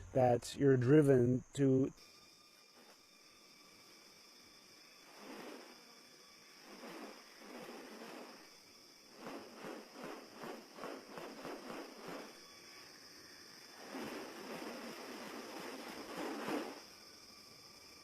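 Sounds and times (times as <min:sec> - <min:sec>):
high insect drone: 0:00.0 - 0:18.0
rustling hiss: 0:01.6 - 0:18.0.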